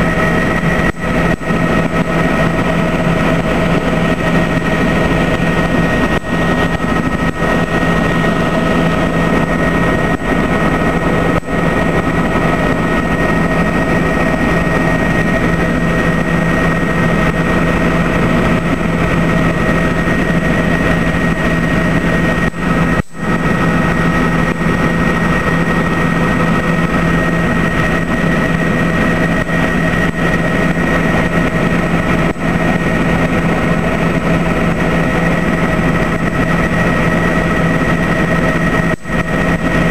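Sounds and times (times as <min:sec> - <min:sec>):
helicopter engine and rotor drone: 0:00.0 - 0:39.9
steady whine: 0:00.0 - 0:39.9.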